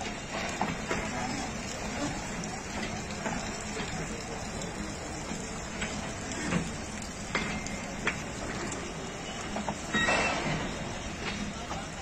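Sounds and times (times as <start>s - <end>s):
train rumbling rattle: 0.0s - 12.0s.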